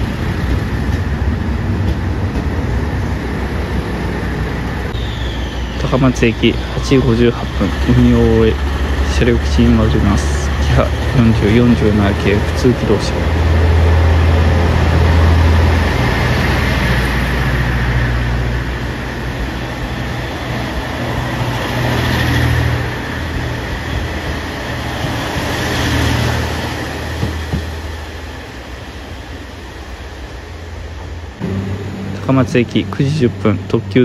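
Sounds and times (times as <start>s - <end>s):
diesel engine rumbling: 0.0s - 34.0s
train rolling past: 0.0s - 34.0s.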